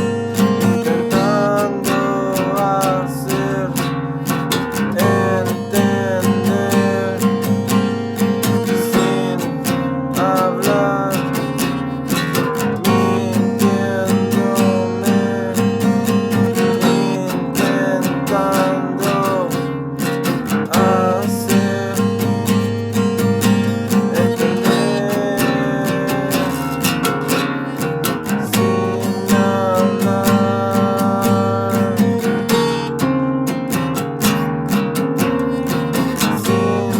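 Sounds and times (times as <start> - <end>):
acoustic guitar strumming chords: 0.0 - 36.9.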